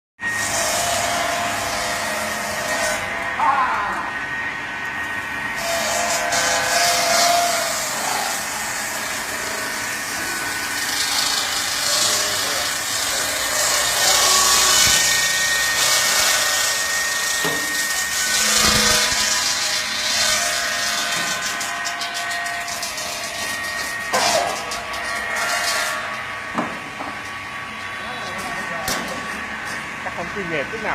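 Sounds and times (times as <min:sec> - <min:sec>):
circular saw blades cutting ice: 0:00.2 - 0:30.5.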